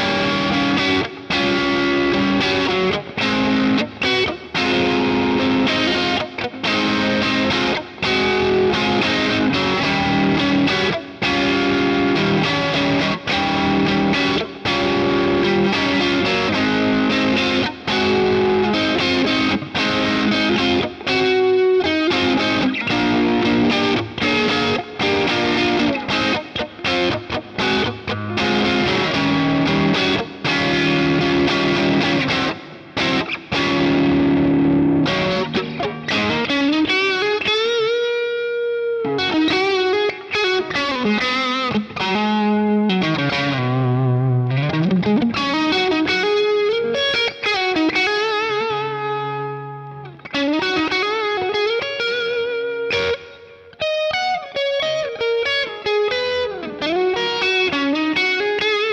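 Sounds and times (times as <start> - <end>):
distorted electric guitar chords: 0.0 - 58.9.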